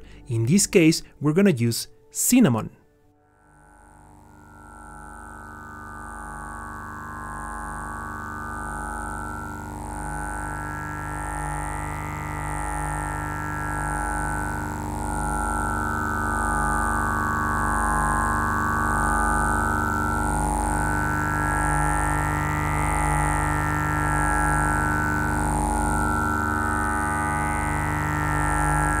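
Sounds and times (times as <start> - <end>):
synthesizer drone: 3.1 - 29.0
low synth pulses: 3.2 - 29.0.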